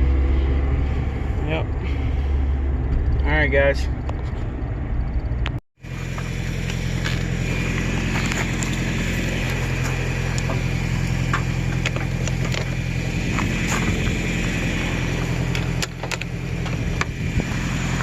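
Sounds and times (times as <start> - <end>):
pickup engine running: 0.0 - 18.0.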